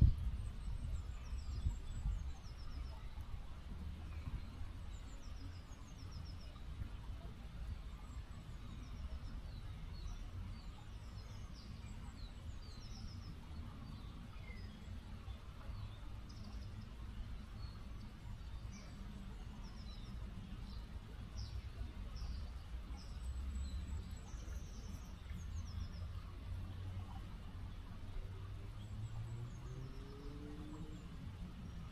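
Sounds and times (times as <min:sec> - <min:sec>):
river water flowing: 0:00.0 - 0:31.9
small birds chirping: 0:00.0 - 0:31.9.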